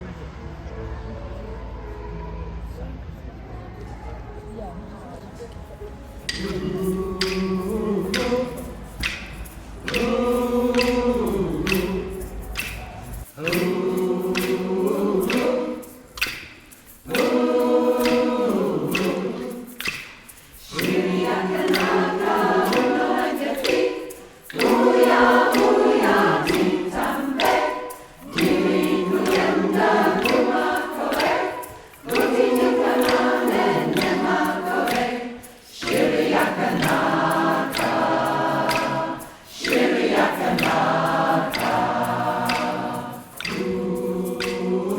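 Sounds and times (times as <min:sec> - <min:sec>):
choir singing in harmony: 0:00.0 - 0:44.9.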